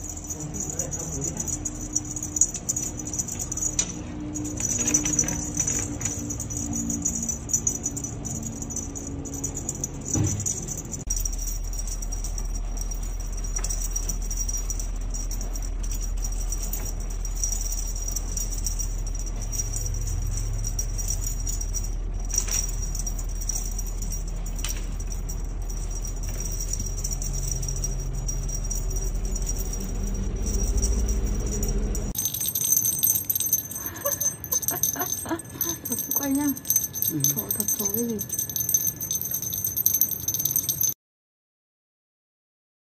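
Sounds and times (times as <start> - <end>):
jingling and rattling: 0.0 - 41.0
low hum: 0.0 - 41.0.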